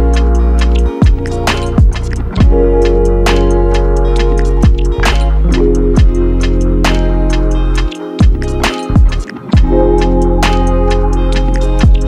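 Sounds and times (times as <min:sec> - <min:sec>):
deep bass: 0:00.0 - 0:12.0
music with steady beat: 0:00.0 - 0:12.0.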